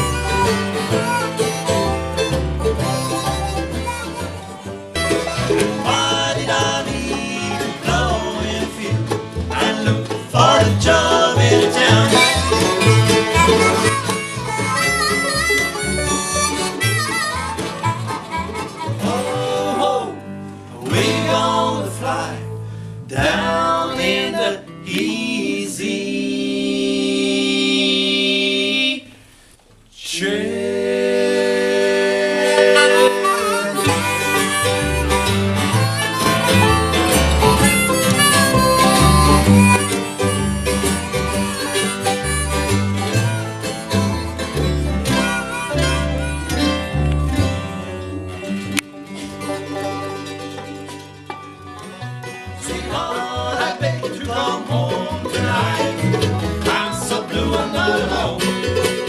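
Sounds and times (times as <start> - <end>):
low bass line: 0.0 - 24.4, 33.8 - 58.9
bluegrass band playing: 0.0 - 59.0.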